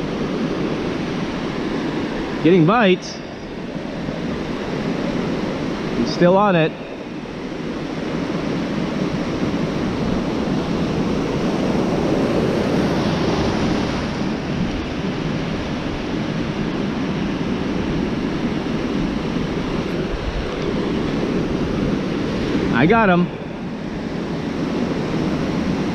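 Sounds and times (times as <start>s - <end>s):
ocean surf washing: 0.0s - 25.9s
wind on microphone: 0.0s - 25.9s.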